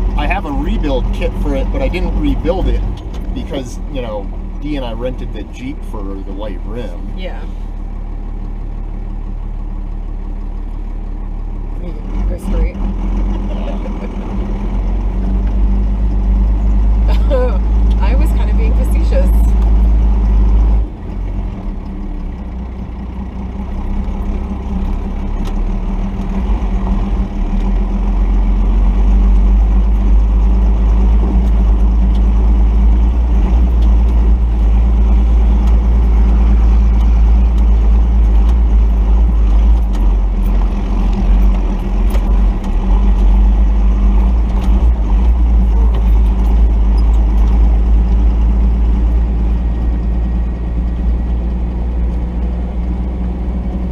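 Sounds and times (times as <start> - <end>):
diesel truck engine at low revs: 0.0 - 53.9.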